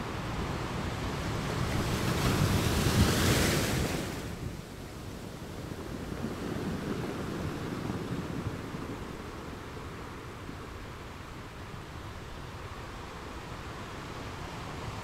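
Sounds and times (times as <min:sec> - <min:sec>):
low rumble of the sea: 0:00.0 - 0:15.0.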